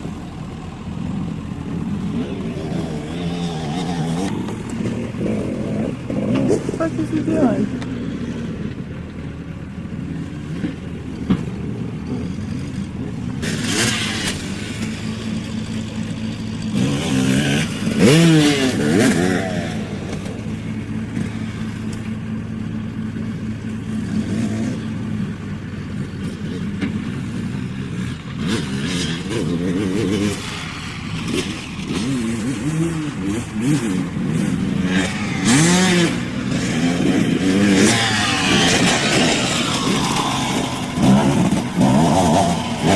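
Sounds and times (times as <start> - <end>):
dirt bike engines revving: 0.0 - 42.9.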